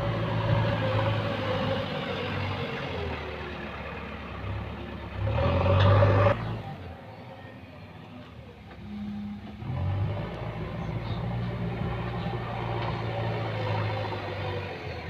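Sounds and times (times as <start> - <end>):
backhoe diesel engine revving: 0.0 - 7.0, 8.7 - 15.0.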